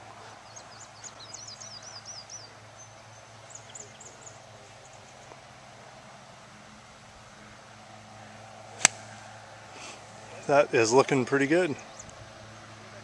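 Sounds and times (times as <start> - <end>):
songbird chirping: 0.0 - 5.8, 8.2 - 12.9.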